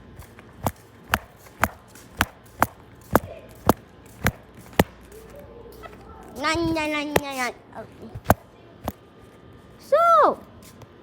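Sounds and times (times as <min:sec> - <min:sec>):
footsteps on hard ground: 0:00.0 - 0:09.0.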